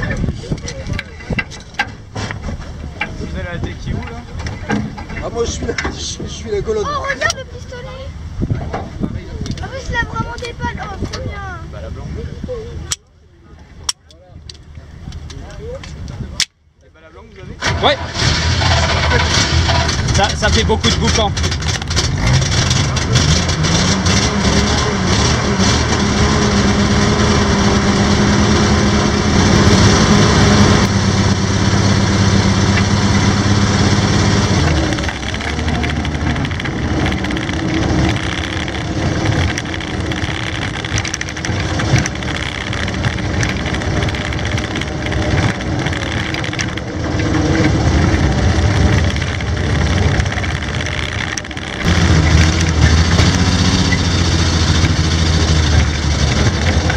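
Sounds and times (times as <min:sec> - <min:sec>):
tracked vehicle engine running: 0:00.0 - 0:56.9.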